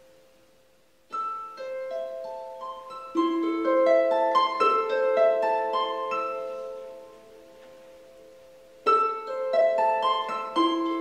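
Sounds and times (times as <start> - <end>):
harp plucked notes: 1.1 - 11.0.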